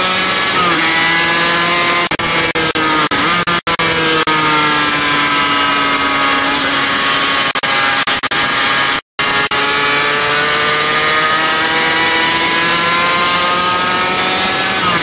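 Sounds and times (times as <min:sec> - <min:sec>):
motorcycle engine at speed: 0:00.0 - 0:15.0.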